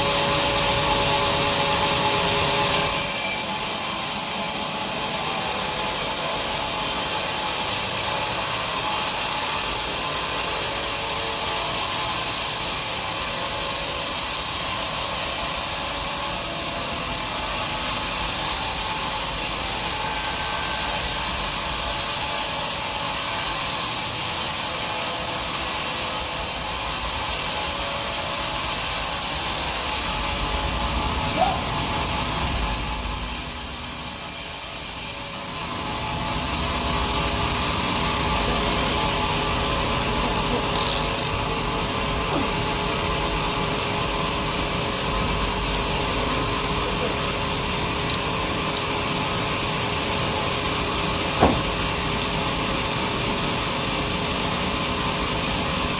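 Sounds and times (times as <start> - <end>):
bandsaw sawing through log: 0.0 - 35.6, 38.5 - 54.3.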